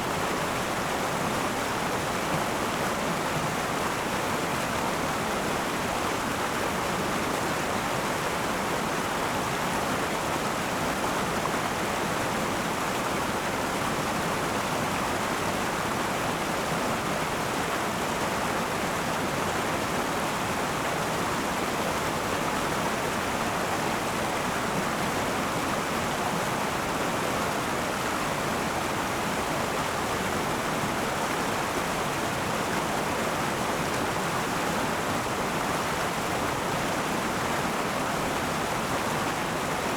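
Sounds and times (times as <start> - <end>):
water flowing over rocks: 0.0 - 39.9.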